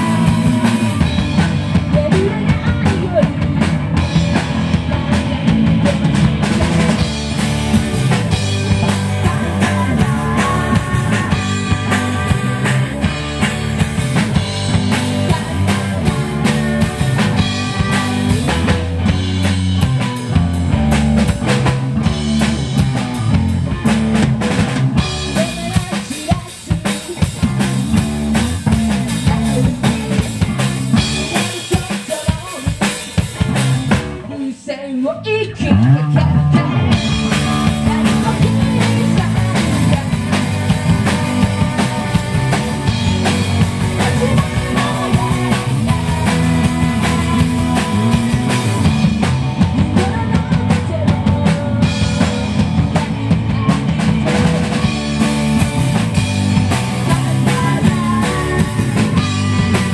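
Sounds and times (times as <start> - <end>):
drum kit: 0.0 - 34.4, 35.6 - 59.9
electric bass: 0.0 - 34.5, 35.2 - 59.9
electric guitar: 0.0 - 34.5, 35.2 - 59.9.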